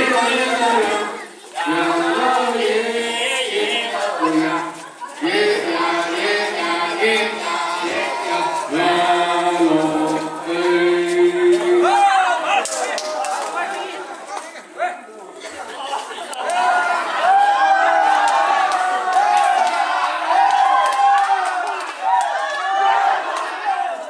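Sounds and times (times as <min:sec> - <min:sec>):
group chanting together: 0:00.0 - 0:14.1, 0:16.4 - 0:24.0.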